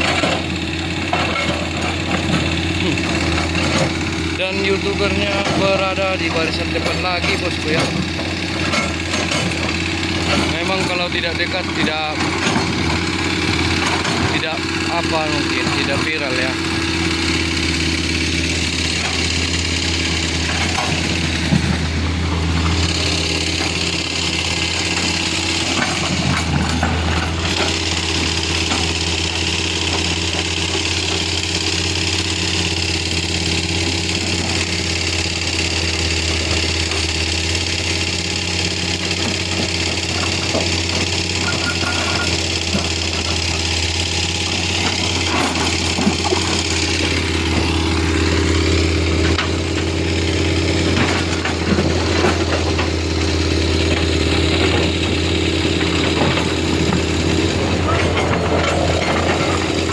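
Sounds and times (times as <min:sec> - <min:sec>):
engines idling: 0:00.0 - 0:59.9.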